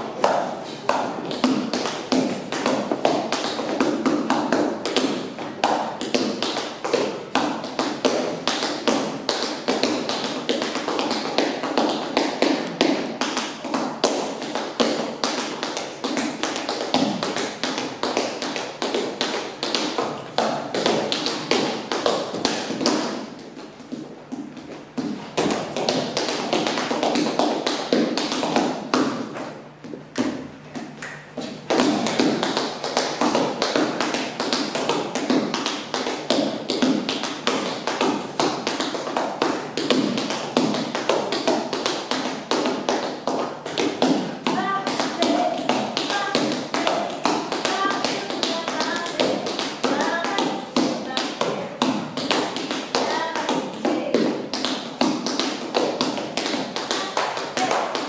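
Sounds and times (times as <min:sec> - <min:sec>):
tap shoes on wooden floor: 0:00.2 - 0:58.0.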